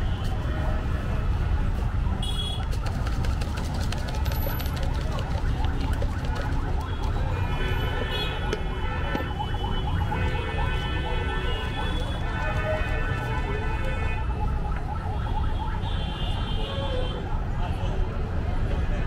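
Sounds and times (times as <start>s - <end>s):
low street rumble: 0.0s - 15.8s.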